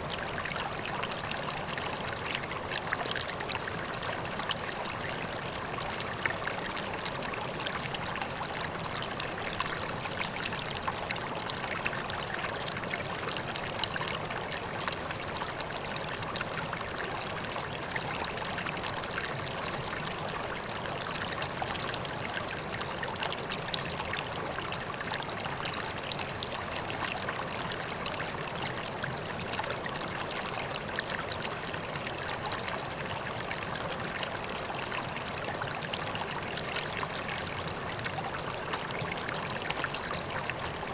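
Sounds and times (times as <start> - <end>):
water trickling into pond: 0.0 - 40.9.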